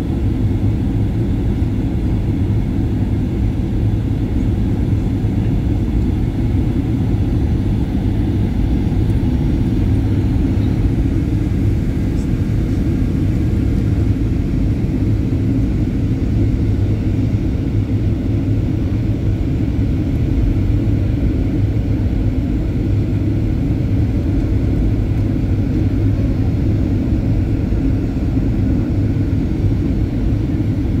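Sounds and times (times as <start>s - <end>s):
airliner cabin engine rumble: 0.0s - 31.0s.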